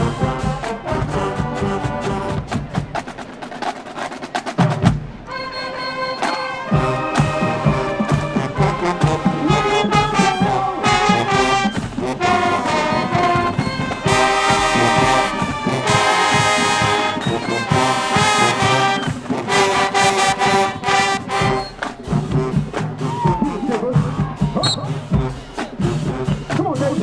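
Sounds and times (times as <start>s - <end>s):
brass playing loud held chords: 0.0s - 2.9s, 5.3s - 27.0s
marching percussion: 0.0s - 27.0s.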